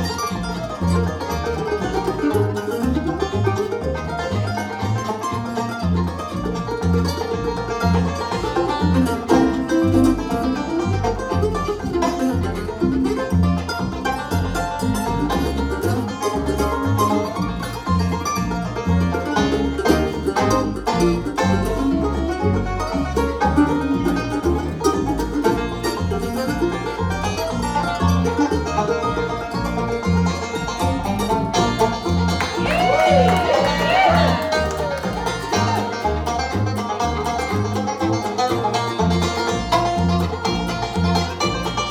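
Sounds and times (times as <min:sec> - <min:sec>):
plucked string lead: 0:00.0 - 0:41.9
steady bass line: 0:00.0 - 0:41.9.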